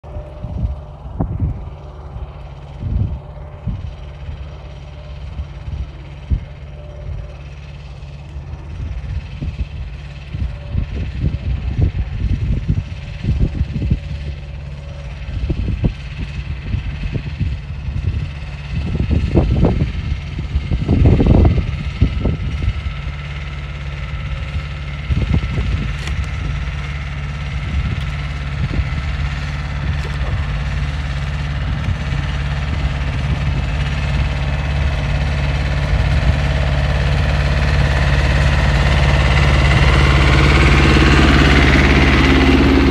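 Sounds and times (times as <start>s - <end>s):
diesel tractor engine running: 0.0s - 42.9s
loud low rumbles: 0.0s - 42.9s.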